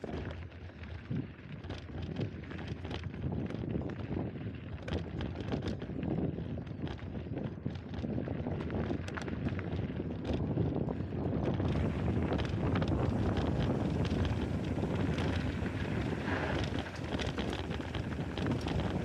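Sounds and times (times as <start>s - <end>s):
bike clicks and rattles: 0.0s - 19.0s
bike tyres rolling on dirt: 0.0s - 19.0s
wind buffeting microphone: 2.0s - 19.0s.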